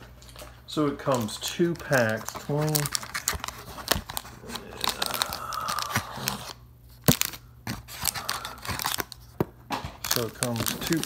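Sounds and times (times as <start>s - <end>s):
foil card packs crinkling: 0.0s - 11.0s.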